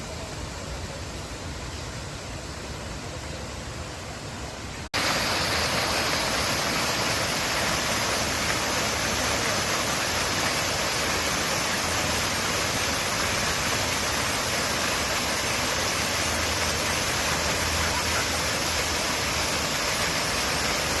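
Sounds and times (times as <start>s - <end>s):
fountain water rushing: 0.0s - 21.0s.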